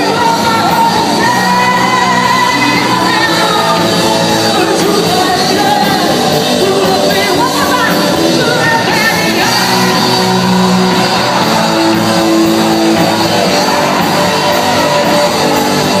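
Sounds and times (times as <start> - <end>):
amplified guitar: 0.0 - 16.0
drums: 0.0 - 16.0
person singing: 0.0 - 16.0.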